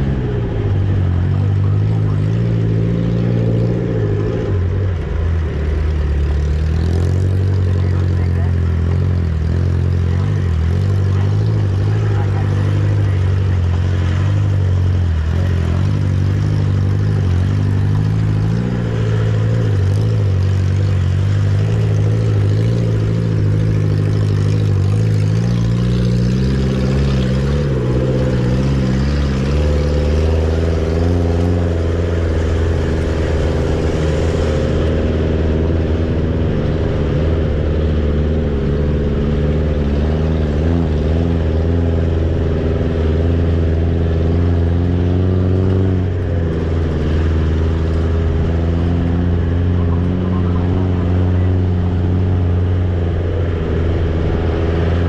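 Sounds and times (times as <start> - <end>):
vehicle engine running at low speed: 0.0 - 55.0.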